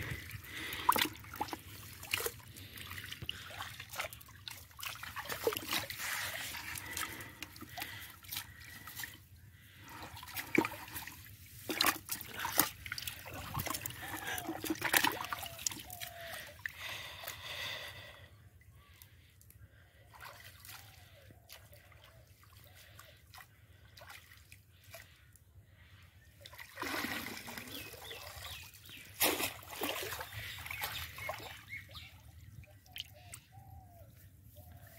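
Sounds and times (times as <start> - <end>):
water splashing and trickling: 0.0 - 18.2, 19.7 - 33.8.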